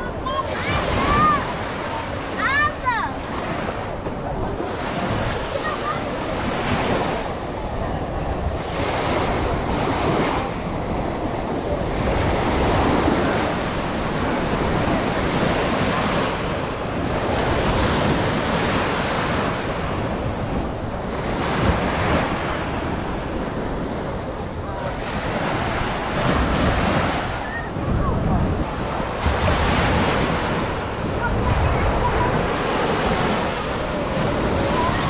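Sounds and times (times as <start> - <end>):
waves breaking on sandy beach: 0.0 - 35.0
wind buffeting microphone: 0.0 - 35.0.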